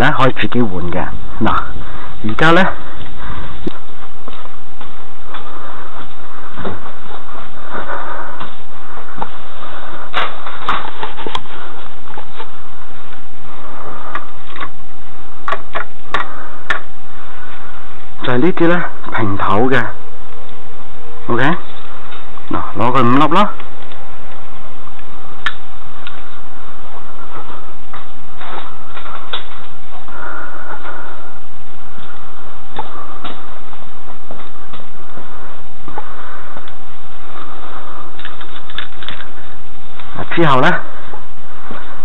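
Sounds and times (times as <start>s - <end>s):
steady hiss: 0.0s - 42.0s
steady hum: 0.0s - 42.0s.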